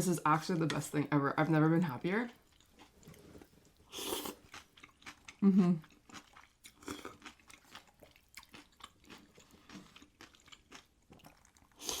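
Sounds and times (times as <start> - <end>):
chewing crunchy cucumber: 2.3 - 12.0.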